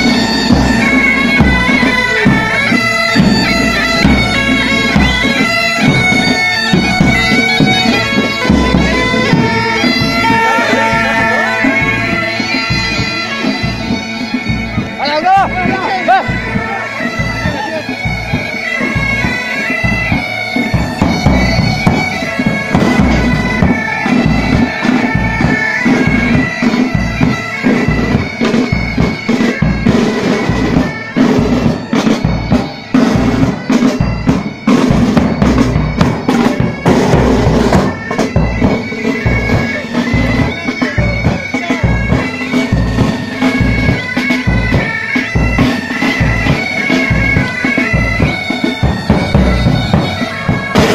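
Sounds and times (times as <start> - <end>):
bagpipes playing: 0.0 - 50.9
side drums and bass drum: 0.0 - 50.9.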